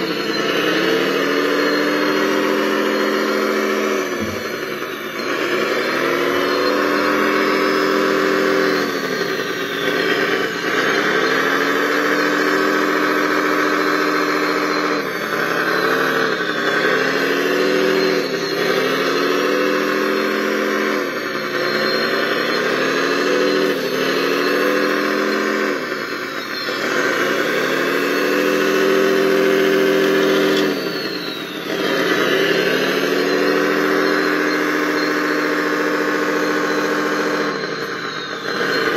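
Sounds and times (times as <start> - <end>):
faint high whistle sliding down: 0.0 - 38.9
model loader engine under load: 0.0 - 38.9.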